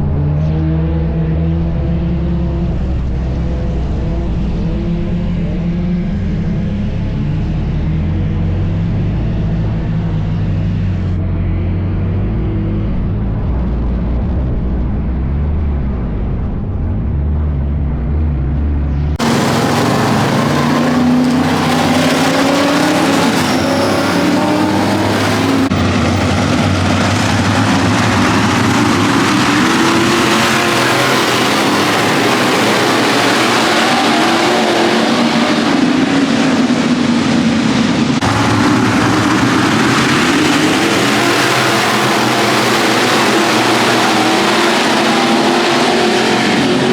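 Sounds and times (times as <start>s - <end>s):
race car engine: 0.0s - 46.9s.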